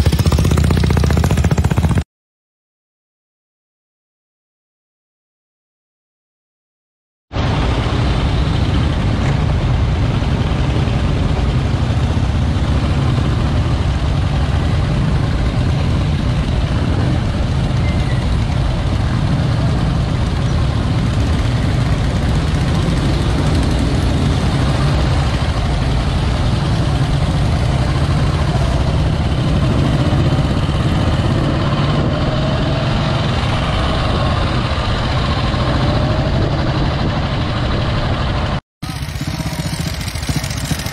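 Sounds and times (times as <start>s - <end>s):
motorcycle engine rumbling: 0.0s - 2.0s, 7.4s - 40.9s
other motorcycles riding ahead: 0.0s - 2.0s, 7.4s - 40.9s.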